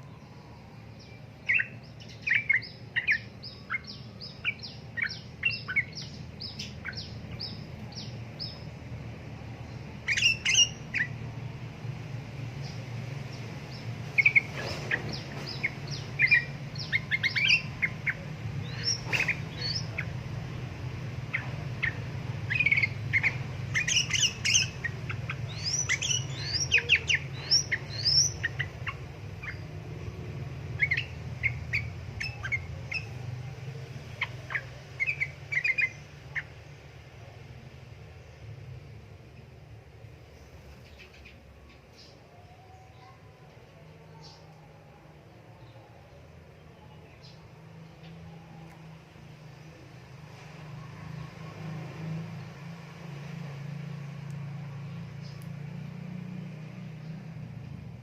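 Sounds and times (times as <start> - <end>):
steady low hum: 0.0 - 46.8
bulbul singing: 0.0 - 50.1.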